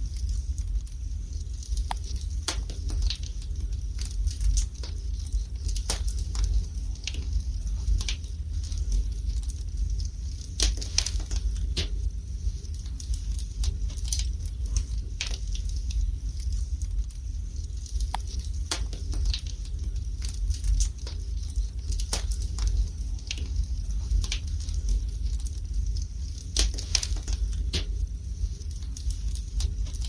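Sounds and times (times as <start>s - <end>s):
logs crackling and popping: 0.0s - 30.0s
low fire rumble: 0.0s - 30.0s.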